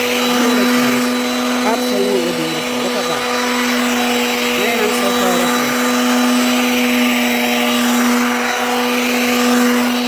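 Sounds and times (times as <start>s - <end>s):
electric motor humming with hiss: 0.0s - 10.0s.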